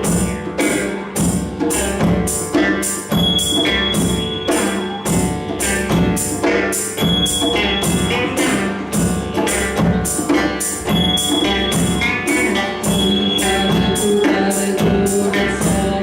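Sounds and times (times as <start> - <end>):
hand drums beating: 0.0 - 16.0
sustained pitched tones: 0.0 - 16.0.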